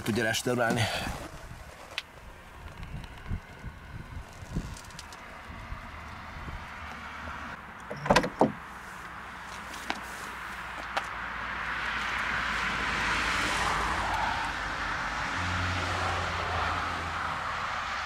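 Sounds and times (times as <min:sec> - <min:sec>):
passing vehicle: 0:02.4 - 0:18.0.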